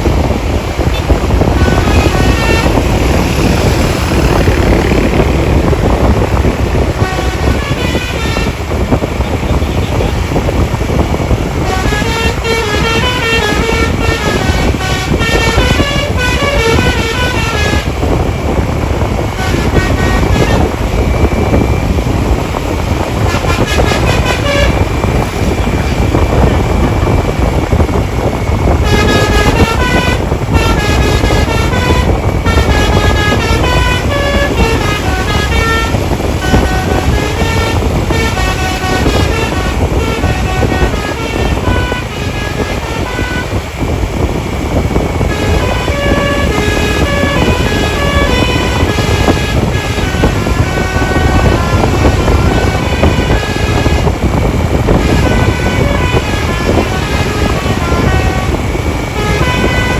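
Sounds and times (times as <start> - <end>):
multi-tone musical bus horn: 0.0 - 59.9
steady low rumble: 0.0 - 59.9.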